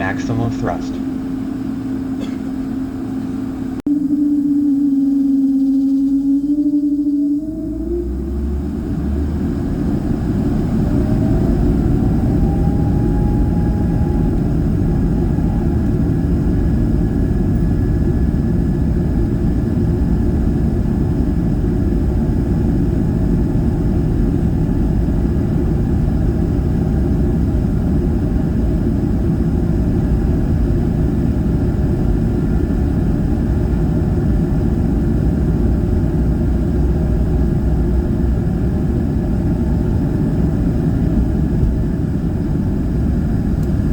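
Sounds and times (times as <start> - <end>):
jet engines at takeoff from cabin: 0.0 - 43.9.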